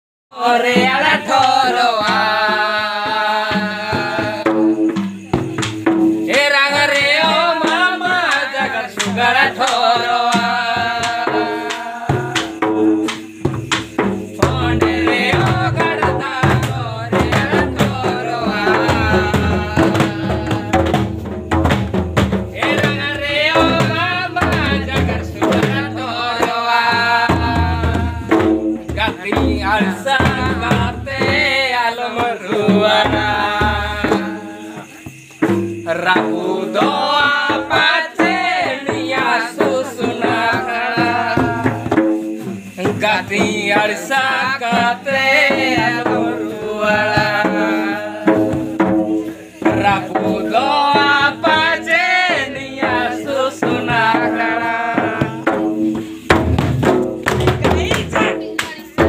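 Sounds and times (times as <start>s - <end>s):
person singing with vibrato: 0.4s - 5.4s, 6.2s - 13.4s, 14.2s - 21.3s, 22.5s - 56.4s, 57.5s - 59.0s
hand drum beat: 0.4s - 59.0s.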